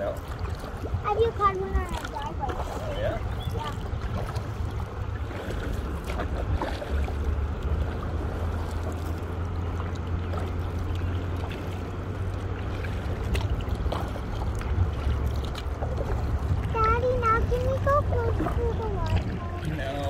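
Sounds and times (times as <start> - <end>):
running water: 0.0 - 20.0
wind rumble on microphone: 0.0 - 20.0.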